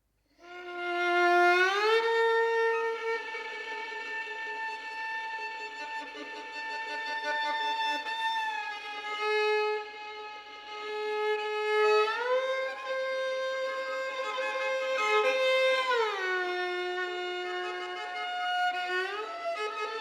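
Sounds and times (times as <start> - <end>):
violin sliding long notes: 0.4 - 20.0.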